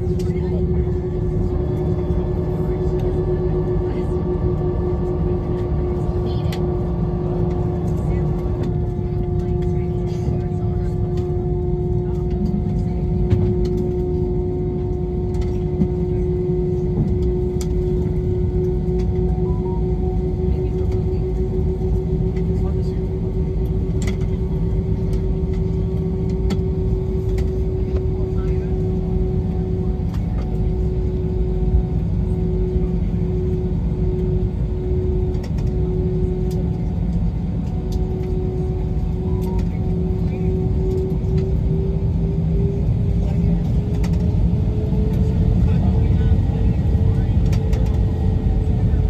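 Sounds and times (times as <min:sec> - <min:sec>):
jet engine cabin rumble: 0:00.0 - 0:49.0.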